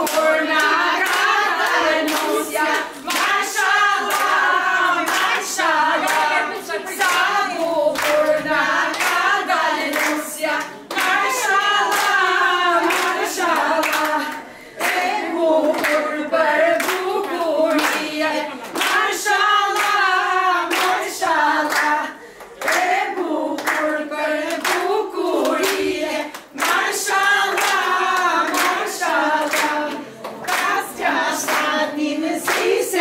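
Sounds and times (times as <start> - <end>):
hands clapping: 0.0 - 16.1, 16.7 - 33.0
women singing together: 0.0 - 33.0.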